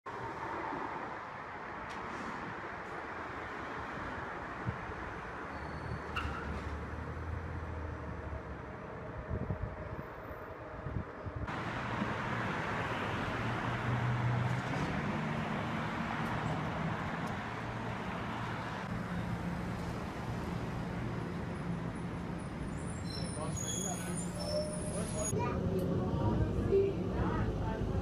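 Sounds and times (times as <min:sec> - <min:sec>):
street traffic noise: 0:00.1 - 0:28.0.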